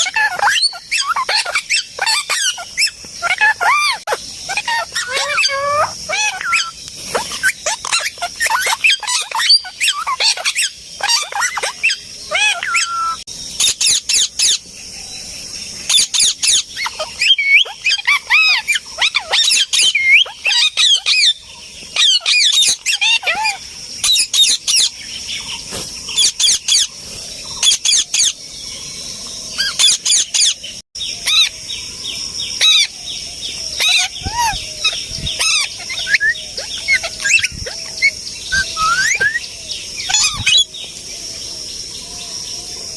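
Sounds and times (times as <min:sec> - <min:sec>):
parrots calling: 0:00.0 - 0:14.6, 0:15.9 - 0:26.9, 0:27.5 - 0:28.4, 0:29.6 - 0:31.6, 0:32.6 - 0:40.7.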